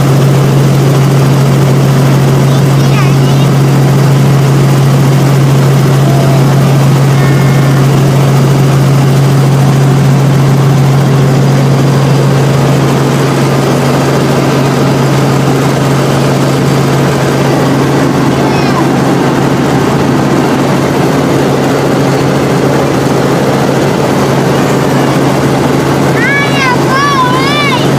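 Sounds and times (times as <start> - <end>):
helicopter engine and rotor drone: 0.0 - 27.9.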